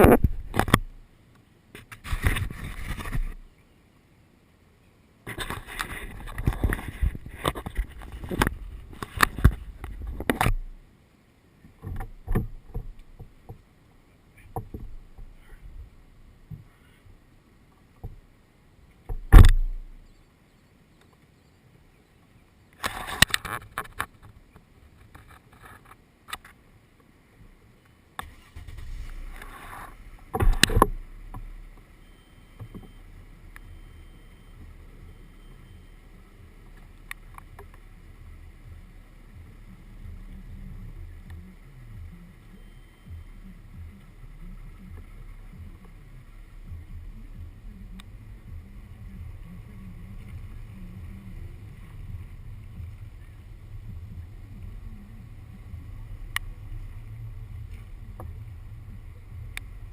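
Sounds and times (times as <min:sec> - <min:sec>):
car low rumble: 0:00.0 - 0:59.9.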